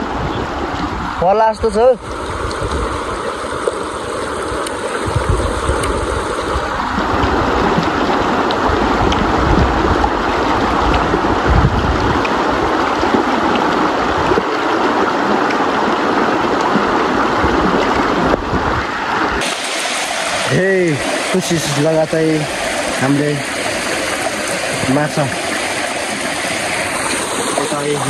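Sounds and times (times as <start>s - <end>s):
river water rushing: 0.0s - 28.0s
wind gusts on microphone: 0.0s - 28.0s.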